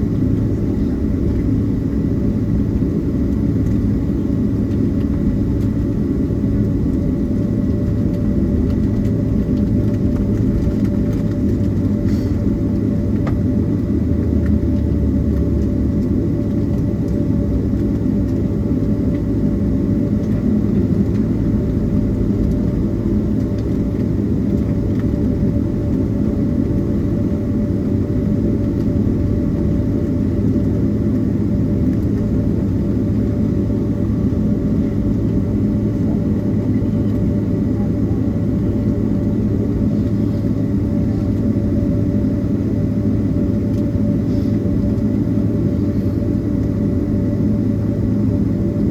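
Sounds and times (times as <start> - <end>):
airplane cabin engine hum: 0.0 - 48.9.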